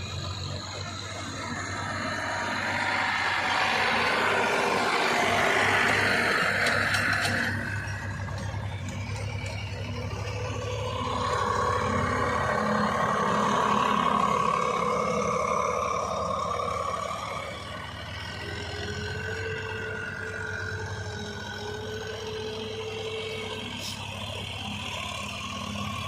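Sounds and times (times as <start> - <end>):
diesel tractor engine running: 0.0 - 26.0
faint whine: 0.0 - 26.0.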